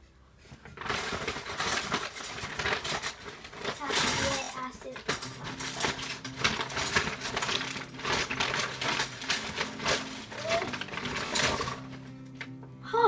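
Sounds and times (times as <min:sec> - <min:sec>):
small objects clicking and clattering: 0:00.6 - 0:12.6.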